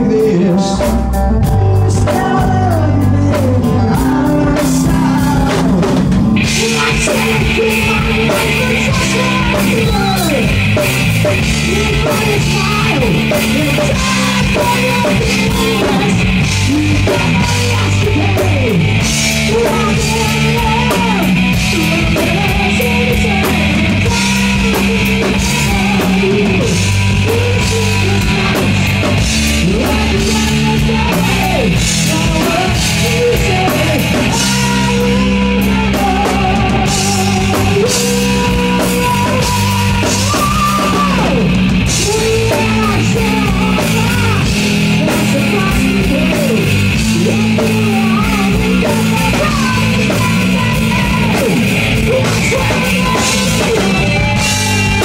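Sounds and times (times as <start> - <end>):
bending electric guitar lead: 0.0 - 55.0
live rock band playing: 0.0 - 55.0.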